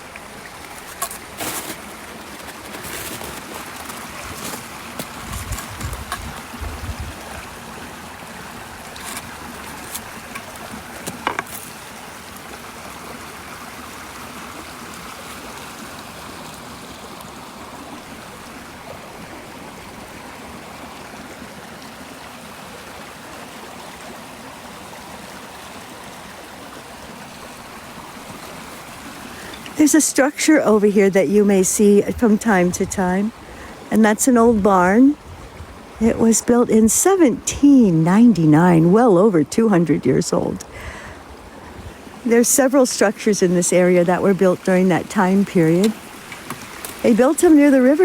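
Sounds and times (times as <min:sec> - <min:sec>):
river water flowing: 0:00.0 - 0:48.0.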